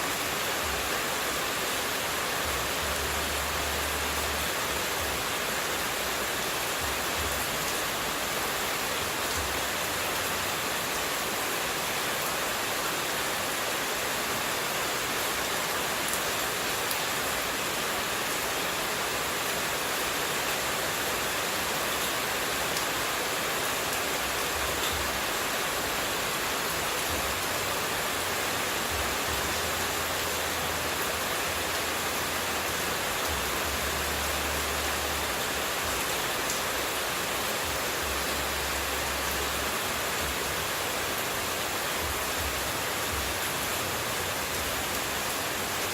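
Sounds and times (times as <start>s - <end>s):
water rushing: 0.0s - 45.9s.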